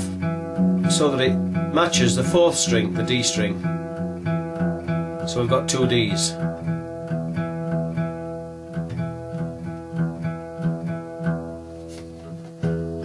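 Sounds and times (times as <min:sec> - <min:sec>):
acoustic guitar strings plucked: 0:00.0 - 0:13.0.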